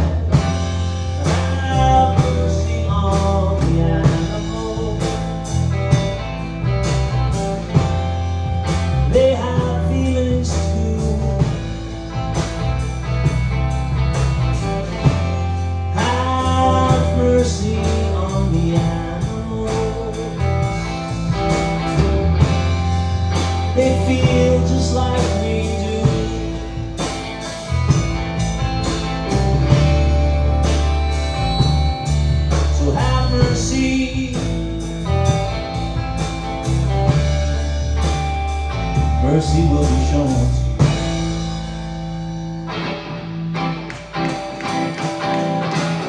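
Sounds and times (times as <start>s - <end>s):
band song with guitar: 0.0s - 46.0s.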